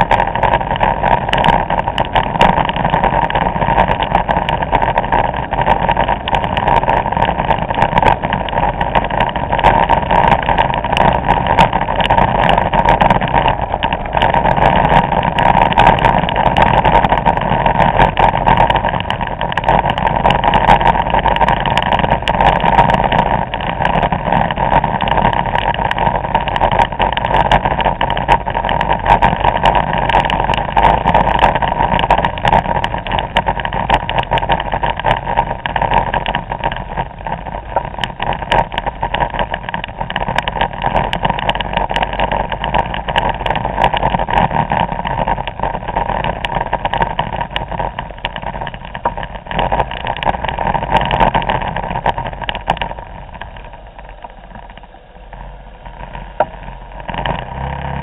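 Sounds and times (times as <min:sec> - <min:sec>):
scooter engine: 0:00.0 - 0:58.0
wind noise on microphone: 0:00.0 - 0:58.0.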